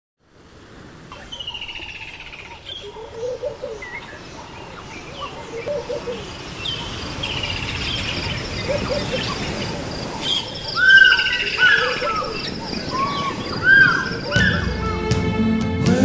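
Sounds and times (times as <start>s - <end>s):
high bird chirps: 1.1s - 15.0s
low warbled bird phrase: 1.1s - 15.1s.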